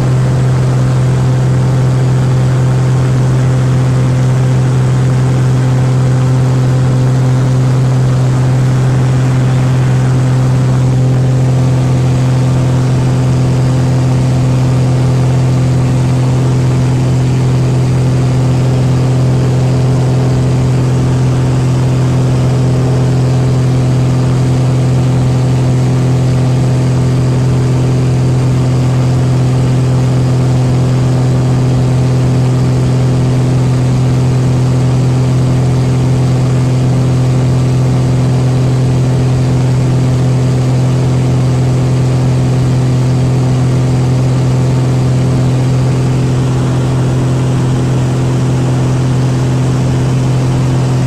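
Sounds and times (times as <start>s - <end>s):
light aircraft engine drone in cabin: 0.0s - 51.0s.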